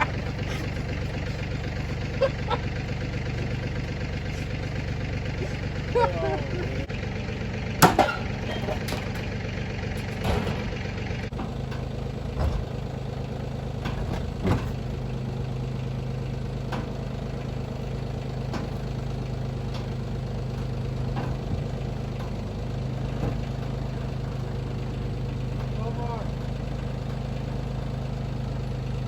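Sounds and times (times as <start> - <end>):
motor hum: 0.0 - 29.0.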